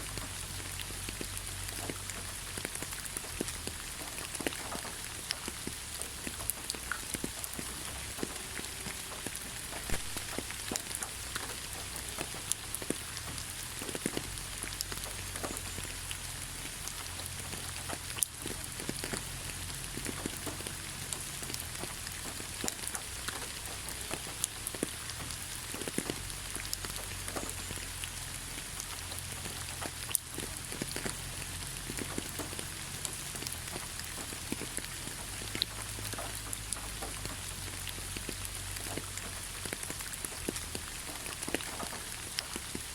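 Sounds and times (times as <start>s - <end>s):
rain falling on leaves: 0.0s - 42.9s.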